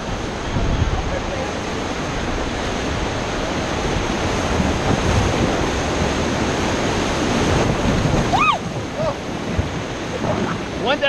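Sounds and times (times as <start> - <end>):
whitewater rapids roaring: 0.0 - 11.0.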